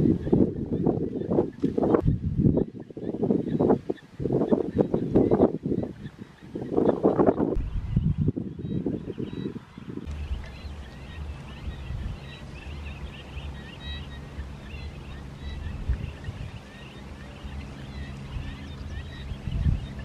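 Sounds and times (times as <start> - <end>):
low steady rumble: 0.0 - 3.5, 7.4 - 20.0
ducklings peeping: 0.0 - 20.0.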